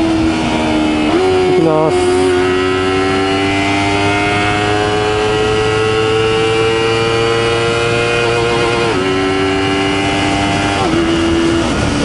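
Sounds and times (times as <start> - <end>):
motorcycle engine revving up: 0.0 - 12.0.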